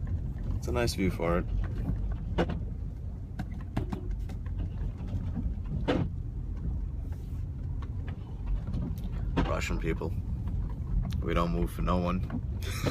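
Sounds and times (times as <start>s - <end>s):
car engine and tyres rumbling: 0.0s - 12.9s.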